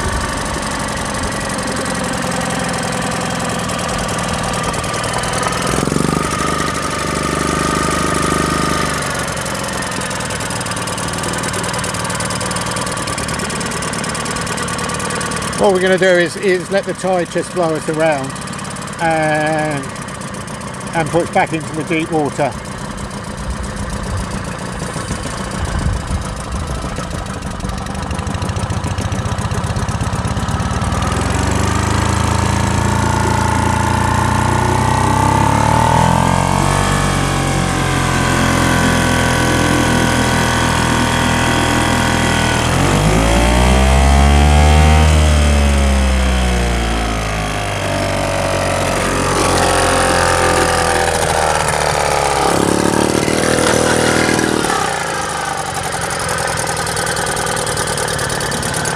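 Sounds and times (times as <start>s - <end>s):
boat engine revving: 0.0s - 58.9s.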